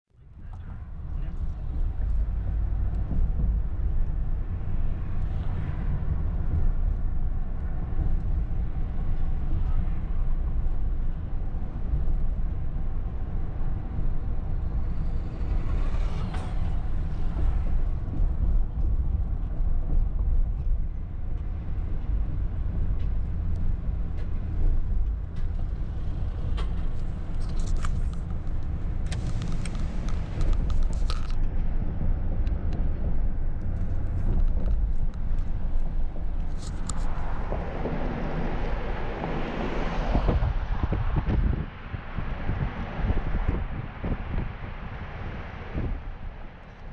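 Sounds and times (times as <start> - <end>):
car engine and tyre rumble: 0.1 - 46.9.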